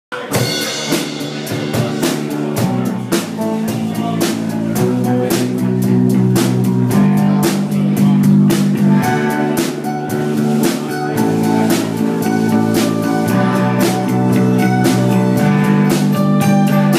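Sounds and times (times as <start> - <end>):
acoustic guitar: 0.1 - 16.9
drum kit beat: 0.1 - 16.9
electric bass: 0.1 - 16.9.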